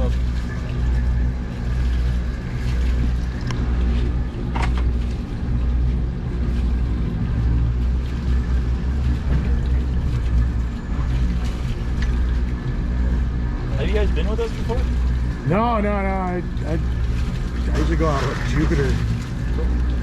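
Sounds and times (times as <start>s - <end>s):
boat engines rumbling: 0.0s - 20.0s.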